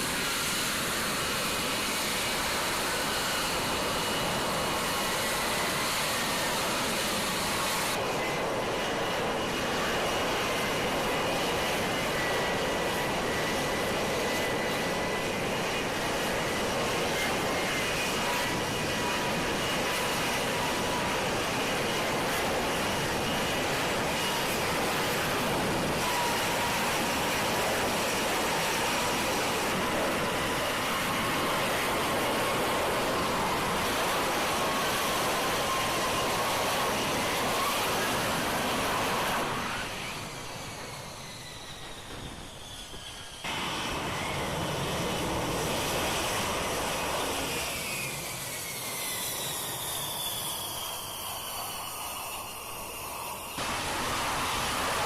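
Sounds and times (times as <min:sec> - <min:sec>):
jet engine roar with whine: 0:00.0 - 0:55.0.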